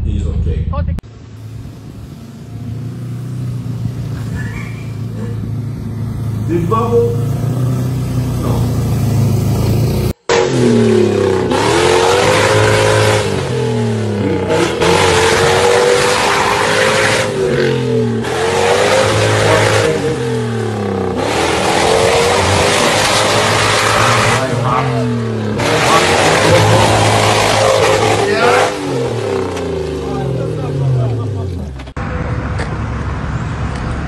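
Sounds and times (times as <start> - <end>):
mud spraying and tyre noise: 1.1 - 34.0
suv engine revving: 1.2 - 32.0.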